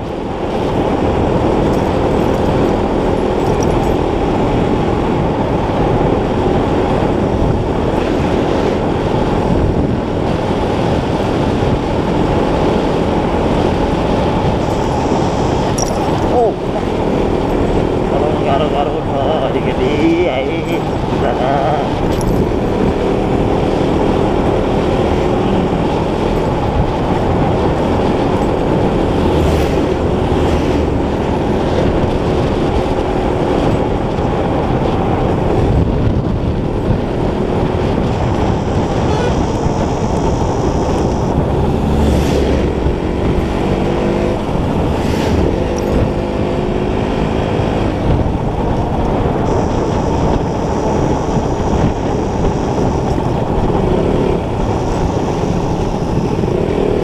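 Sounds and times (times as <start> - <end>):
heavy wind noise: 0.0 - 57.0
motorcycle engine running: 0.0 - 57.0.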